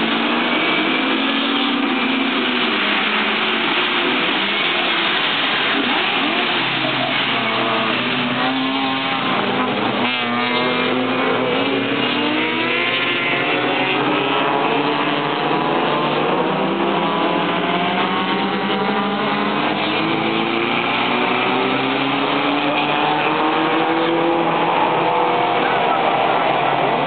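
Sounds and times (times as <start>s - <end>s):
race car engines accelerating: 0.0s - 27.0s.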